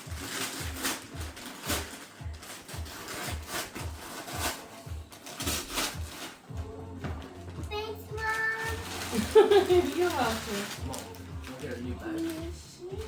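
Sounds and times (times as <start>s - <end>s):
wrapping paper rustling and tearing: 0.0s - 6.6s, 7.4s - 13.0s
background music beat: 0.0s - 13.0s.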